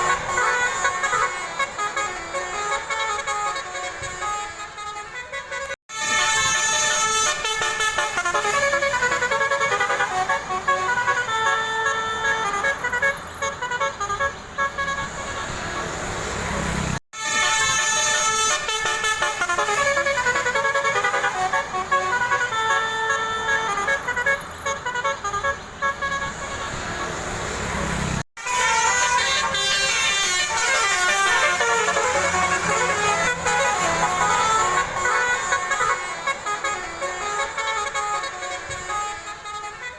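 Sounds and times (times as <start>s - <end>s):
bus multi-tone horns tooting: 0.0s - 39.9s.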